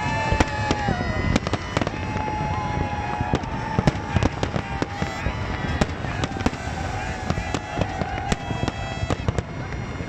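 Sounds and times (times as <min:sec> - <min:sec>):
steady high held tone: 0:00.0 - 0:10.0.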